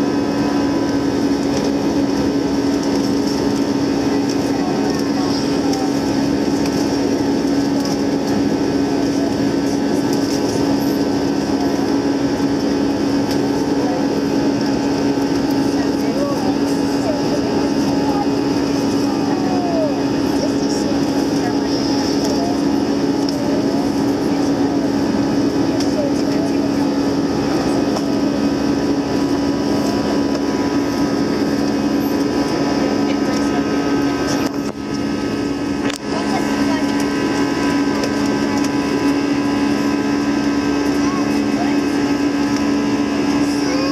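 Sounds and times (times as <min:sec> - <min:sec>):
jet engines at takeoff power: 0:00.0 - 0:43.9.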